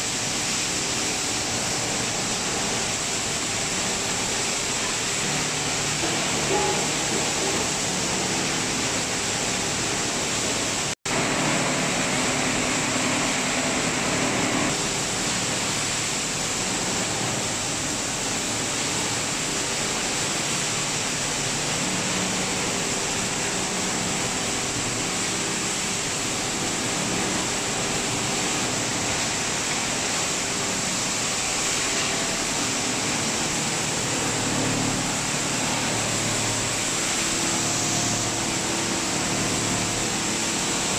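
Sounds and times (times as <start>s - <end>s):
industrial washing machinery din: 0.0s - 40.9s.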